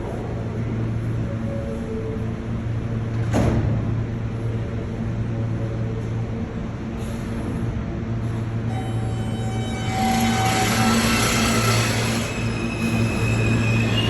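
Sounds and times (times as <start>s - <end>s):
subway train humming: 0.0s - 14.0s.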